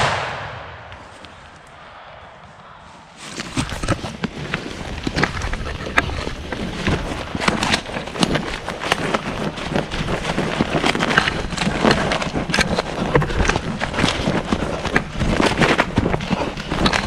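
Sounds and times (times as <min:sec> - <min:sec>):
close rustling: 0:02.5 - 0:17.0.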